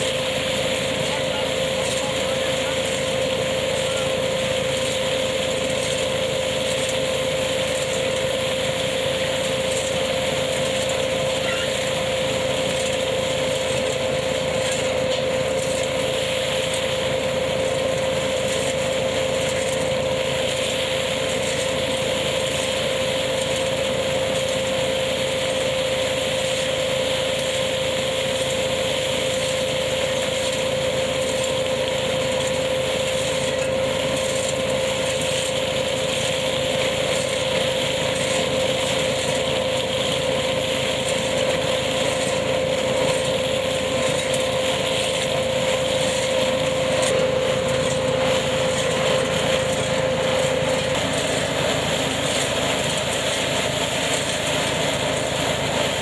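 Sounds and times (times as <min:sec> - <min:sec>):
machine mechanical drone: 0:00.0 - 0:56.0.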